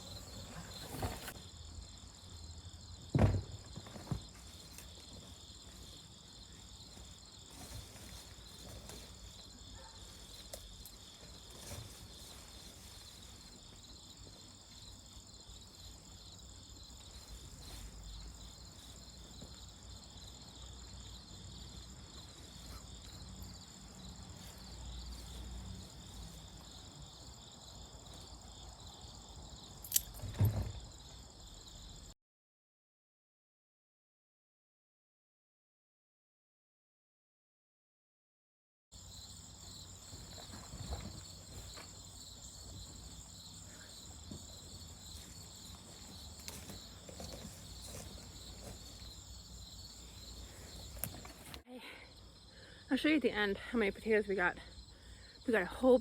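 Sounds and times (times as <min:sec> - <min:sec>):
insects chirping: 0:00.0 - 0:32.1, 0:38.9 - 0:56.0.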